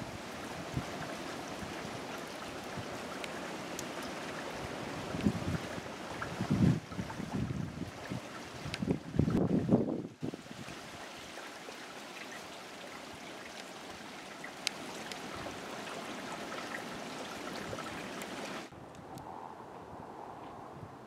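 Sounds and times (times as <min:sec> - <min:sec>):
creek trickling over rocks: 0:00.0 - 0:18.8.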